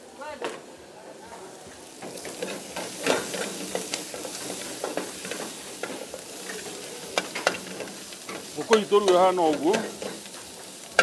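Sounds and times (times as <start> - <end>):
chicken sizzling in wok: 0.1 - 11.0
metal ladle scraping wok: 2.0 - 11.0.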